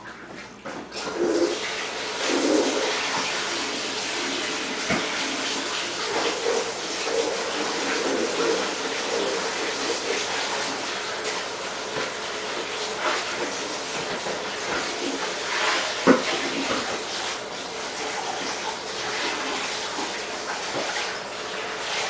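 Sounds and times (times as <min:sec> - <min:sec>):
kitchen tap running into sink: 0:00.0 - 0:22.0.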